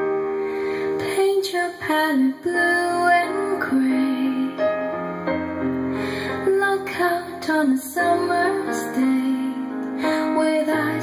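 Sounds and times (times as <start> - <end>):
song with female voice and keyboard: 0.0 - 11.0.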